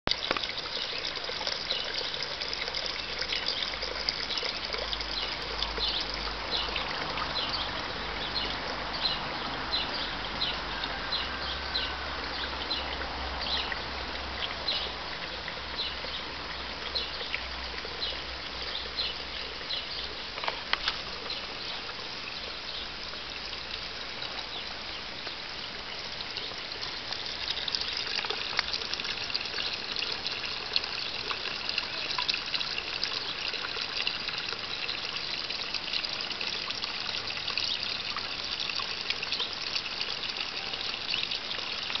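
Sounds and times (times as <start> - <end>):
pond water trickling: 0.0 - 42.0.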